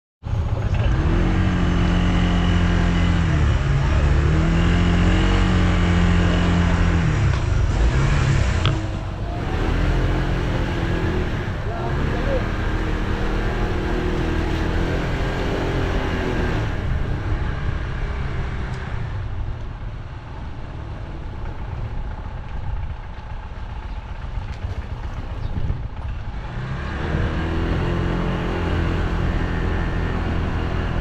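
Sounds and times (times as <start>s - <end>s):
road and wind noise: 0.2s - 31.0s
scooter engine running: 0.3s - 31.0s.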